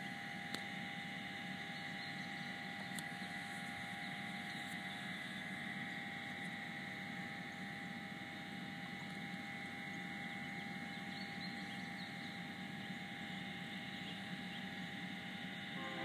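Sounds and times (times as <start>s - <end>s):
ventilation fan hum: 0.0s - 16.0s.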